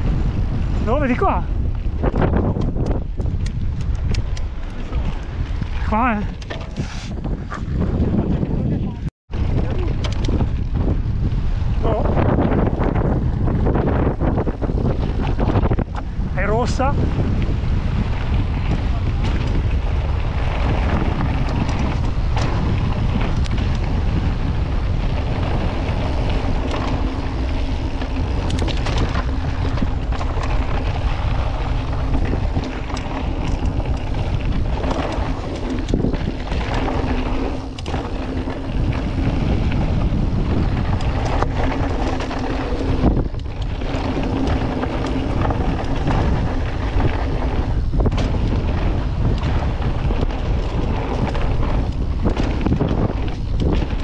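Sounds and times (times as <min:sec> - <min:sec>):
bike knocking and rattling: 0:00.0 - 0:54.0
wind rushing over microphone: 0:00.0 - 0:54.0.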